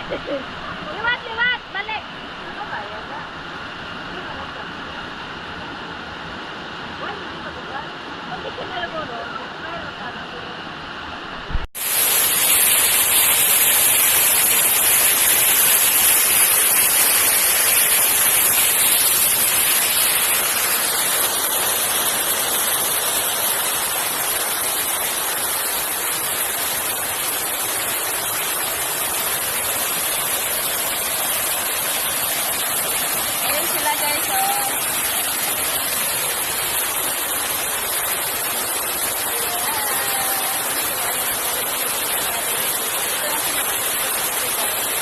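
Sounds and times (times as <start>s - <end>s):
rushing water: 0.0s - 45.0s.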